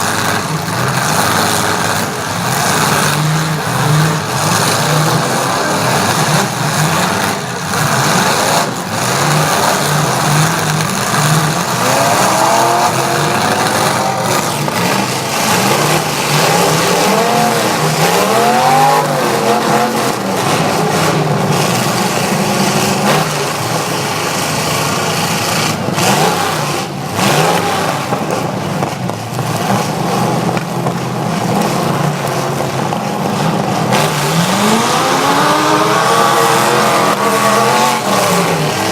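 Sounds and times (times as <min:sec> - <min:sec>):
truck engines revving hard: 0:00.0 - 0:38.9.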